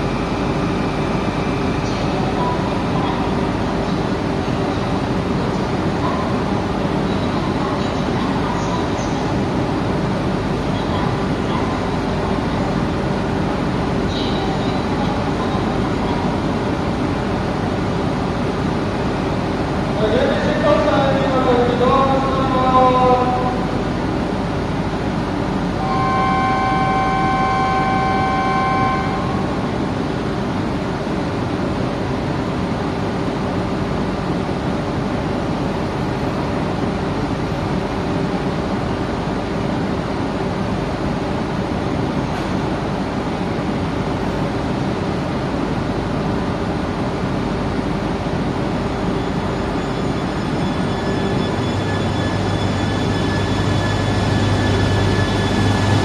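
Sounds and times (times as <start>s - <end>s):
train drive whine: 0.0s - 56.0s
train humming at platform: 0.0s - 56.0s.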